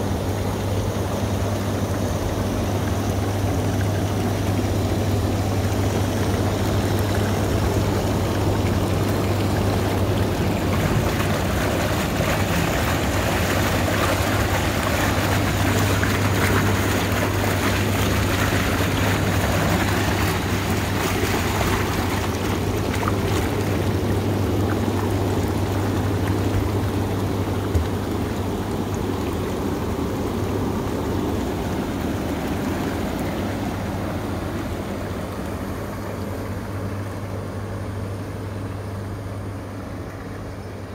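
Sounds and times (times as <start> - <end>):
churning rushing water: 0.0 - 40.9
pump hum: 0.0 - 40.9.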